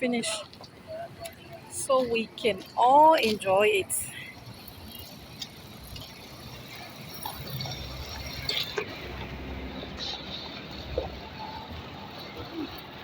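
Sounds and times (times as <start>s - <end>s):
vehicle rumbling on rough road: 0.0s - 13.0s.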